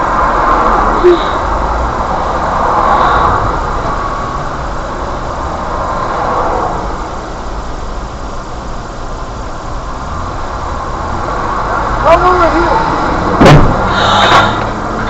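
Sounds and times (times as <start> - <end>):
vehicles hissing past: 0.0 - 7.6, 10.0 - 15.0
car idling rumble: 0.0 - 15.0.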